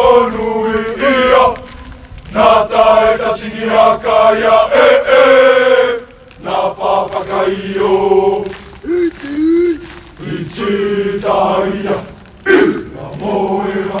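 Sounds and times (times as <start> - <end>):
men chanting in unison: 2.3 - 14.0.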